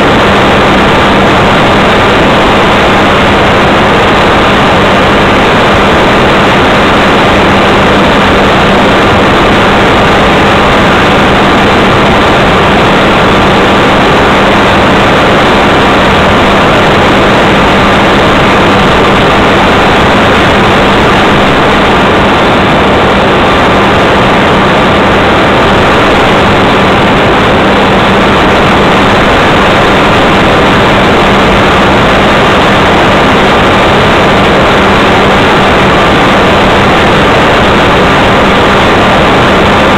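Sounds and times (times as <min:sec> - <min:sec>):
rushing air: 0:00.0 - 0:39.9.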